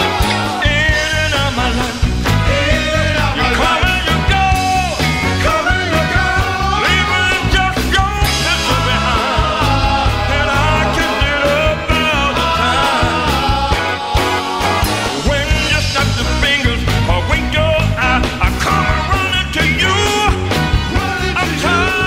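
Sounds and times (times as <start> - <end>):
band playing soul song: 0.0 - 22.0
lead vocal singing: 0.0 - 22.0.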